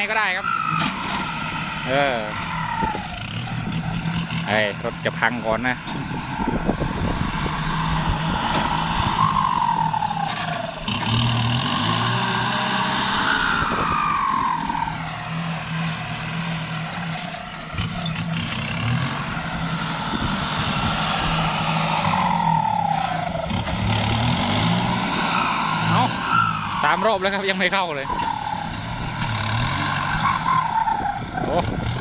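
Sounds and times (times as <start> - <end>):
tractor diesel engine under load: 0.0 - 32.0
whining tone falling in pitch: 0.0 - 32.0.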